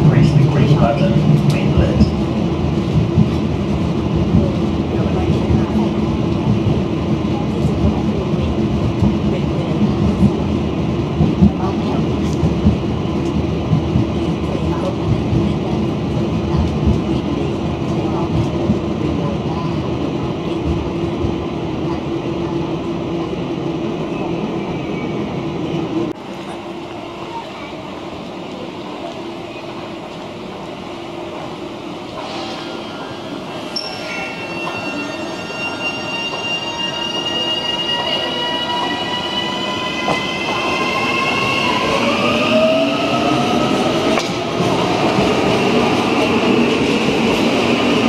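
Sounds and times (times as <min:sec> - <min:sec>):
wheels rumbling on rail: 0:00.0 - 0:48.0.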